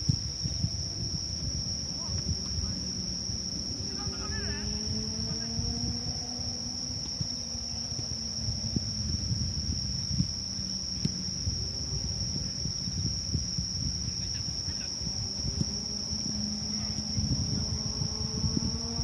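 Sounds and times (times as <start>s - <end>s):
crickets trilling: 0.0s - 19.0s
low rumble: 0.0s - 19.0s.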